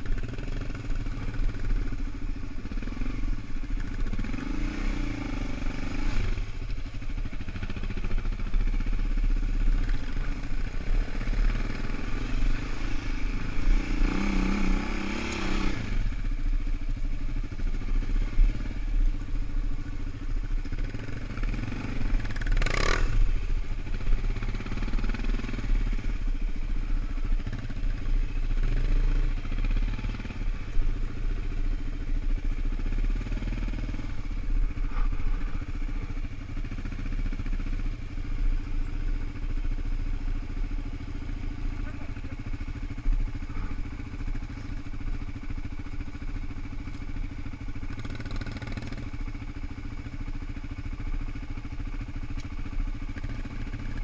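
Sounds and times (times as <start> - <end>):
quad bike engine revving: 0.0 - 16.3, 17.3 - 19.1, 20.5 - 54.0
second quad bike engine: 0.0 - 54.0.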